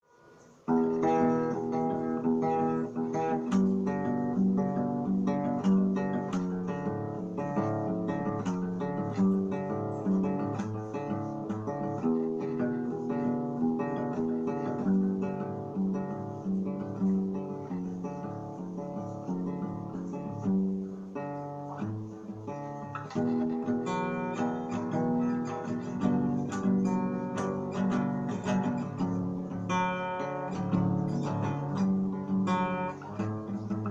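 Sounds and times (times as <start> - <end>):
acoustic guitar strummed and plucked: 0.0 - 33.9.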